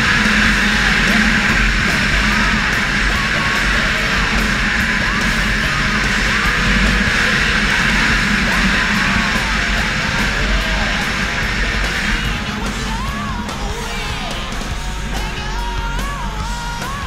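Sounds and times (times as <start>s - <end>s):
hard rock music with electric guitar: 0.0s - 17.0s.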